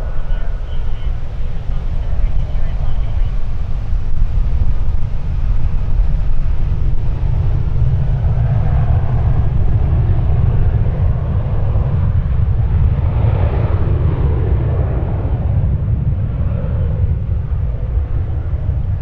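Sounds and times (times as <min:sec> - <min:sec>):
passing jet aircraft: 0:00.0 - 0:19.0
wind buffeting microphone: 0:00.0 - 0:19.0.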